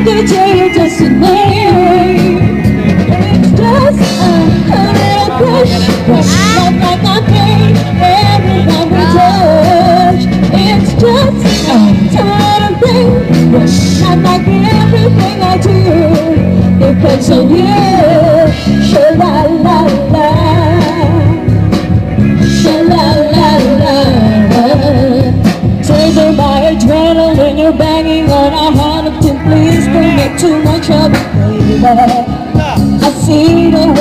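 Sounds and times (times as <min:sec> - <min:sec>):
band playing pop-rock song: 0:00.0 - 0:34.0.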